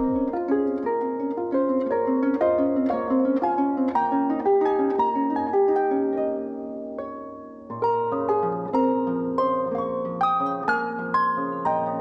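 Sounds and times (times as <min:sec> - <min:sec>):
harp plucked notes: 0:00.0 - 0:12.0.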